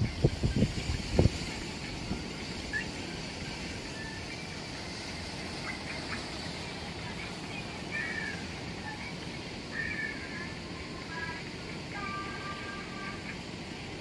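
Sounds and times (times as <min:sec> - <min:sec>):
waves breaking: 0:00.0 - 0:14.0.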